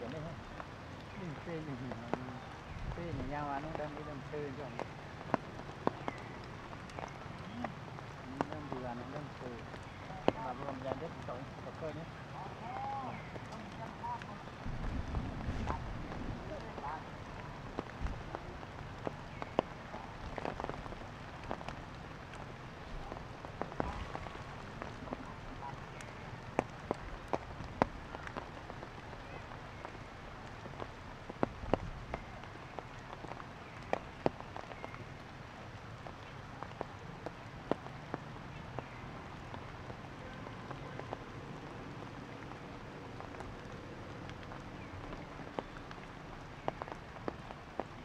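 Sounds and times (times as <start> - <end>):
water dripping onto leaves: 0.0 - 48.0.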